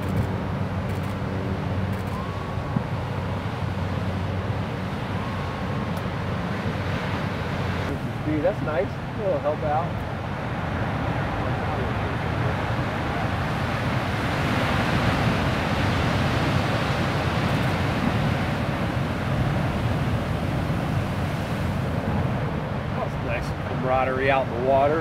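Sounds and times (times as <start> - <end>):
heavy ocean surf: 0.0 - 25.0
wind roaring: 0.0 - 25.0.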